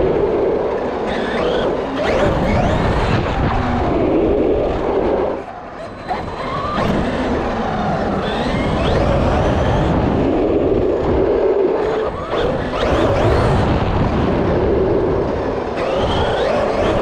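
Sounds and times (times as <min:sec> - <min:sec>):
electric motor whine: 0:00.0 - 0:17.0
tyre and road noise: 0:00.0 - 0:17.0.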